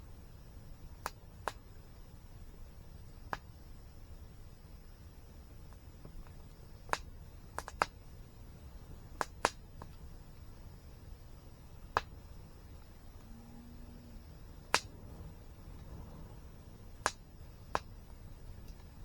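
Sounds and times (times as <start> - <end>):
low steady rumble: 0.0 - 19.0
campfire crackling: 0.1 - 19.0.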